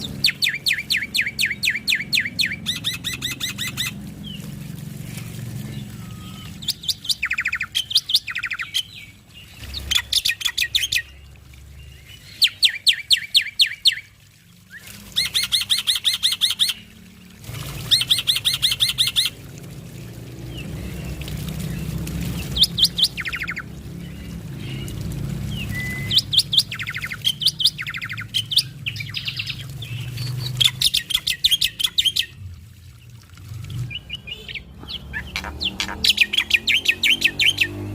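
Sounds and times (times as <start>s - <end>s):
starling singing rattling bursts: 0.0s - 32.4s, 33.8s - 37.9s.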